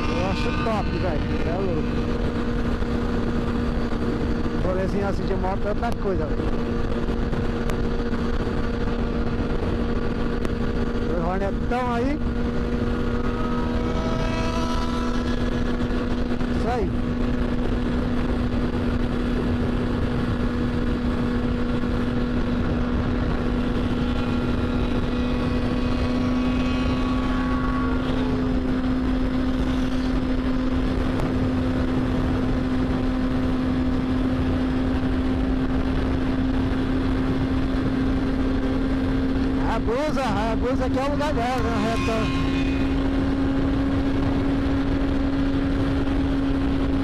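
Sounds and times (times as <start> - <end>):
motorcycle engine cruising: 0.0 - 47.0
wind and road noise: 0.0 - 47.0.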